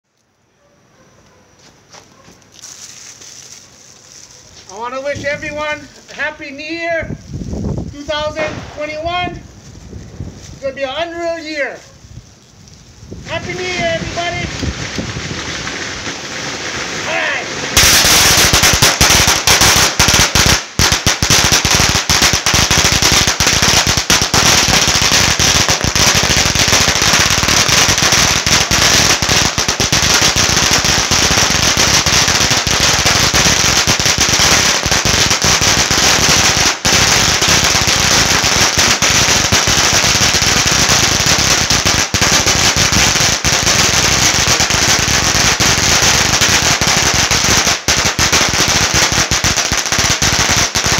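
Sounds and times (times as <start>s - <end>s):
firecrackers rattling: 2.4s - 50.9s.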